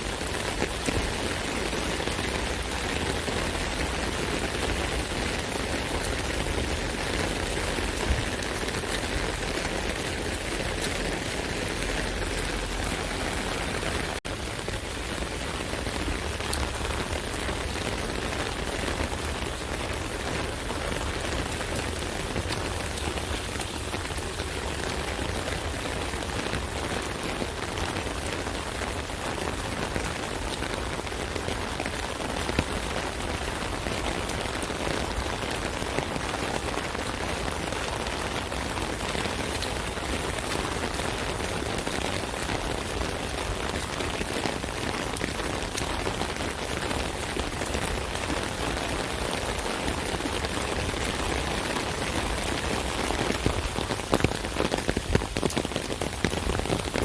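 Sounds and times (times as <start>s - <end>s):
rain falling on an umbrella: 0.0s - 57.0s.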